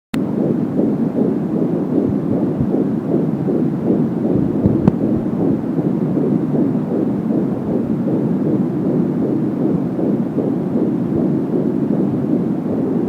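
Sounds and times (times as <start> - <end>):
fetal heartbeat whooshing pulse: 0.2 - 13.0.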